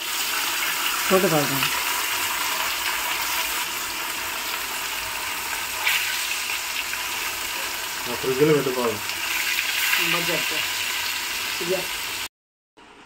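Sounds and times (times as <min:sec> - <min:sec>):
fish deep-frying in hot oil: 0:00.0 - 0:12.3.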